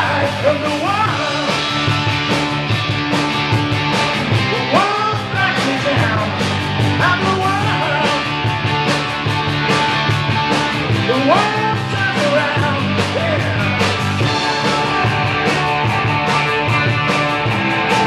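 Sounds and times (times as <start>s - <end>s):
guitar lead line sliding up: 0.0s - 18.0s
live rock band playing: 0.0s - 18.0s.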